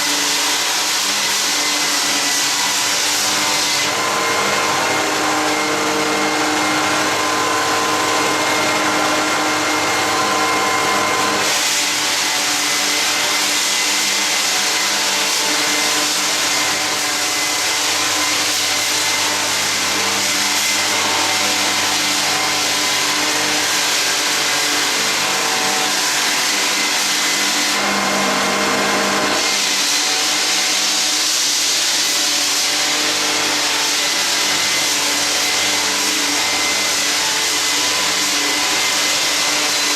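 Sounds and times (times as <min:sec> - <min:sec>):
floor sander motor hum: 0:00.0 - 0:39.9
sander hiss: 0:00.0 - 0:39.9.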